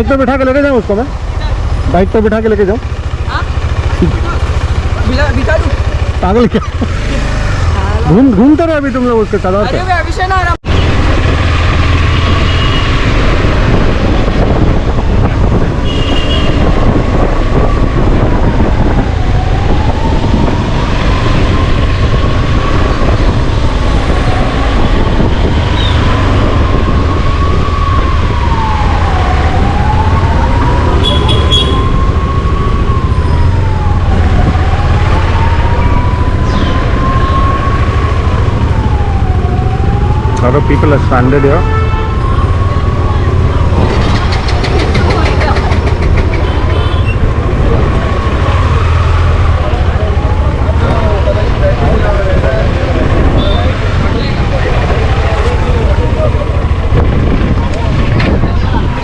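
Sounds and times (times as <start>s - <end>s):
emergency siren wailing: 11.7s - 59.0s.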